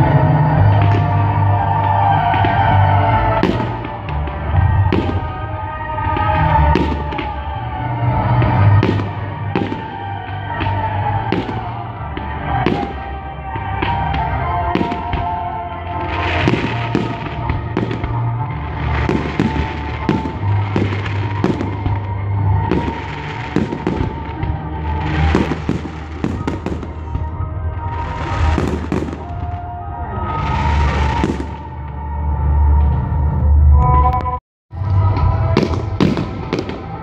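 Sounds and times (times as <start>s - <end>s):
fireworks bangs: 0.0s - 32.0s, 35.4s - 37.0s
music with deep bass: 0.0s - 37.0s.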